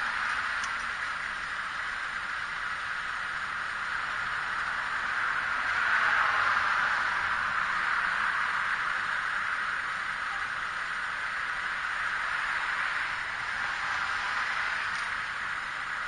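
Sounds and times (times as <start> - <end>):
cars passing by: 0.0 - 16.0
street traffic hiss: 0.0 - 16.0.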